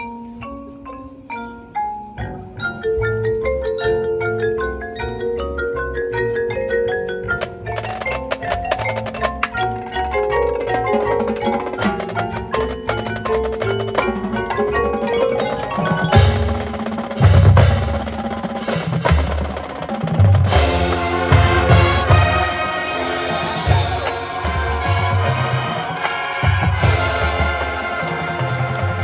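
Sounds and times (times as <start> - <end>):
marimbas playing quick runs: 0.0 - 29.0.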